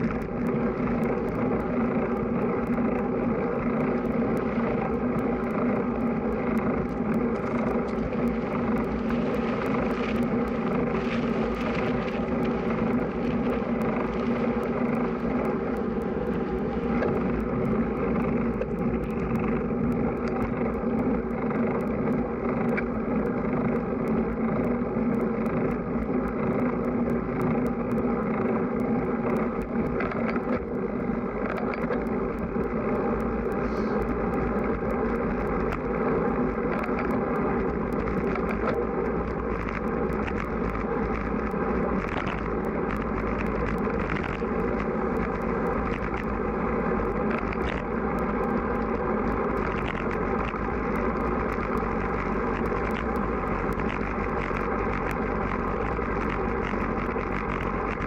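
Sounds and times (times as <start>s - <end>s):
bike road rumble: 0.0s - 58.0s
small clicks: 0.0s - 58.0s
wind on microphone: 0.0s - 58.0s.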